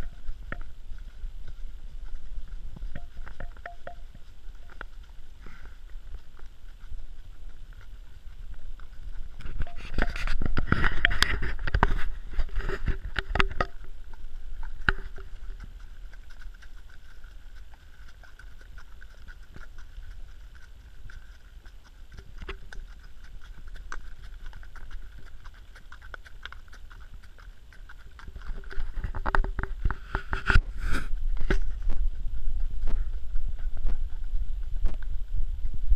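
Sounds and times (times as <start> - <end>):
horse hooves on dirt track: 0.0 - 35.9.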